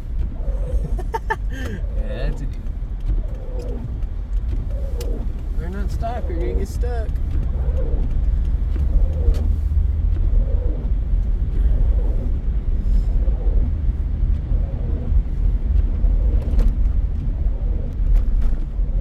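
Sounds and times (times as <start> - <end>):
road noise on snow: 0.0 - 19.0
vehicle engine rumble: 0.0 - 19.0.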